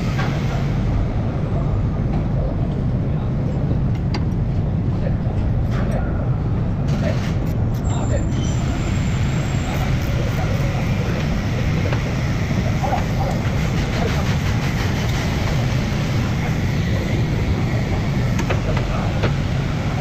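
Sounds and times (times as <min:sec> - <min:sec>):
workshop low rumble: 0:00.0 - 0:20.0.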